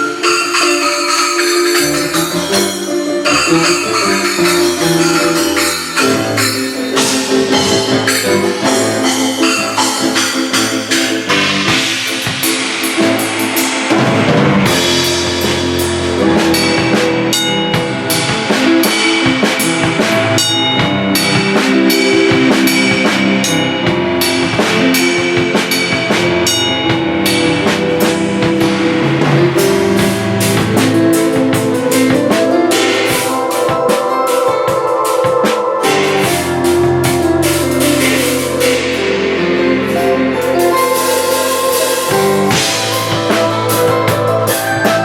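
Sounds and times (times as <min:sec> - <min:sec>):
drum kit with crashing cymbals: 0:00.0 - 0:45.0
sustained piano chords: 0:00.0 - 0:45.0.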